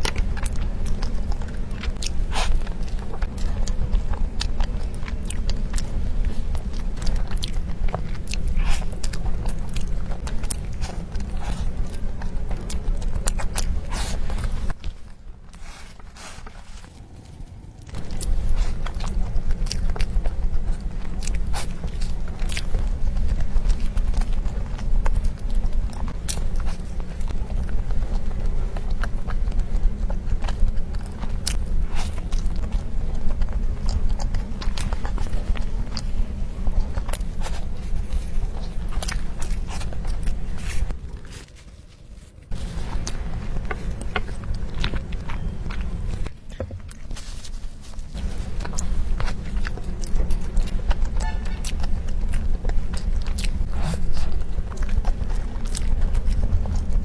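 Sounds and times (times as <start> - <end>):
low rumble: 0.0 - 57.0
person chewing soft pastry: 0.0 - 57.0
steady low hum: 0.0 - 57.0.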